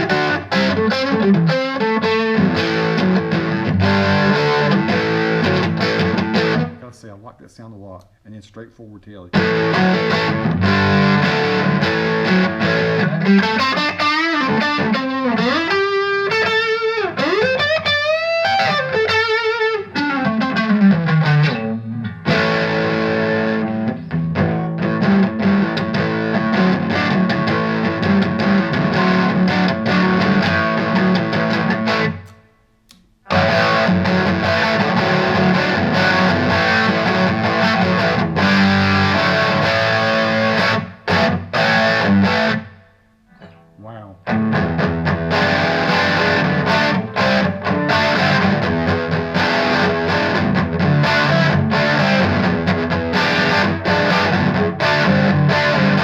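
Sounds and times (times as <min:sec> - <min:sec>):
overdriven electric guitar: 0:00.0 - 0:06.8, 0:09.3 - 0:56.0.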